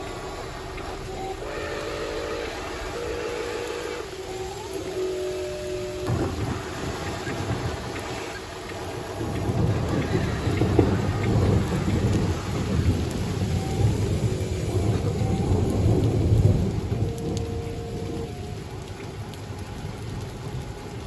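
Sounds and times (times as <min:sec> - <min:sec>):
faint steady tones: 0:00.0 - 0:21.0.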